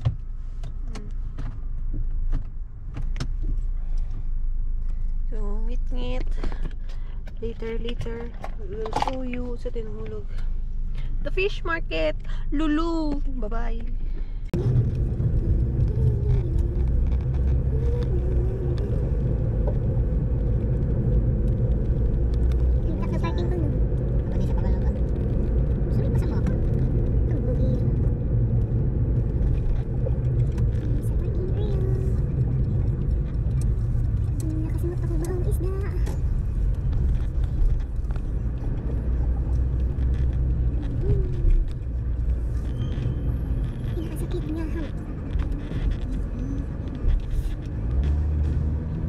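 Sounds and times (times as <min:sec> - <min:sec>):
car road and engine rumble: 0:00.0 - 0:49.0.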